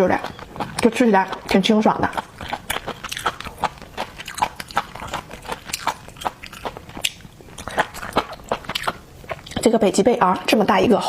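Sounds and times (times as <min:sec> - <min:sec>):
crunchy chewing and biting: 0:00.0 - 0:09.8.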